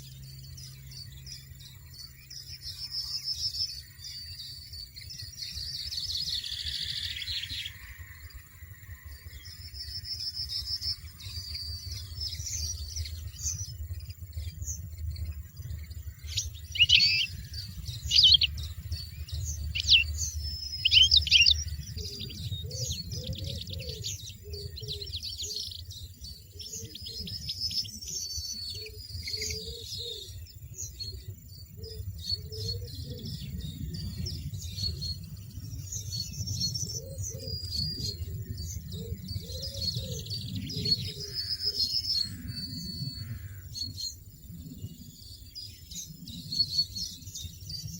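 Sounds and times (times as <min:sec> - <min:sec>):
small birds chirping: 0:00.0 - 0:47.9
low background rumble: 0:07.7 - 0:47.9.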